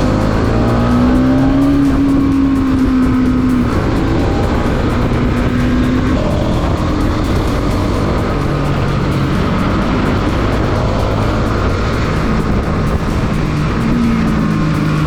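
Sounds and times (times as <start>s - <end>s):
motorcycle engine running: 0.0s - 15.0s
steady rushing noise: 0.0s - 15.0s.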